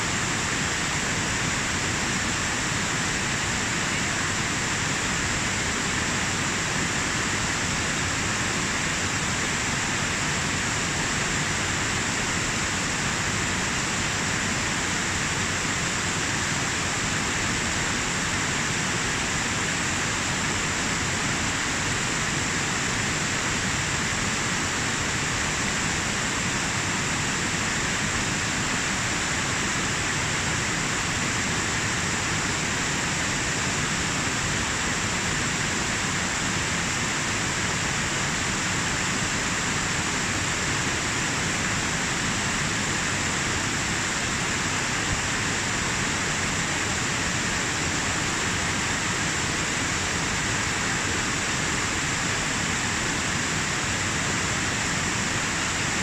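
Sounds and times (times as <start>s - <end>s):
waterfall rushing and splashing: 0.0s - 56.0s.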